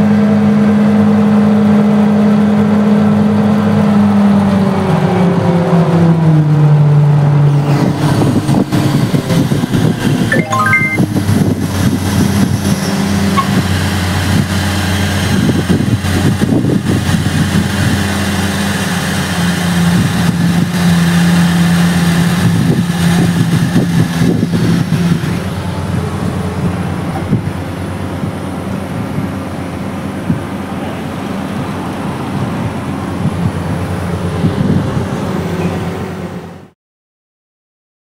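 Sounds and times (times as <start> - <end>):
crane diesel engine running: 0.0 - 10.3, 11.0 - 36.6.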